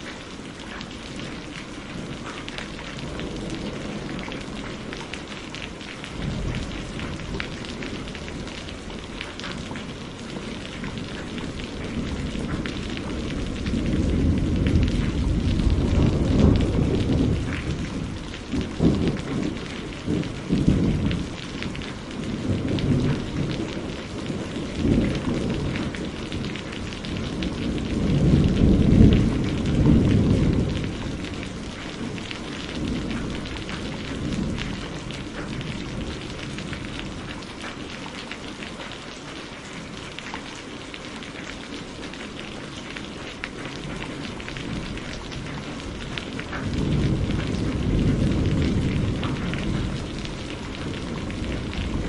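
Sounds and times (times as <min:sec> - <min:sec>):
heavy rain: 0:00.0 - 0:52.0
rolling thunder: 0:01.1 - 0:37.6, 0:43.7 - 0:52.0.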